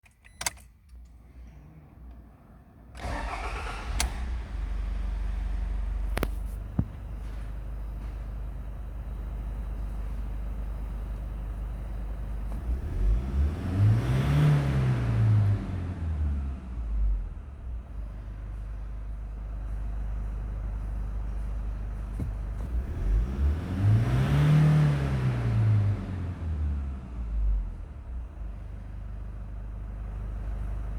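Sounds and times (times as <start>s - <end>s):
diesel engine idling and revving: 1.2s - 30.9s.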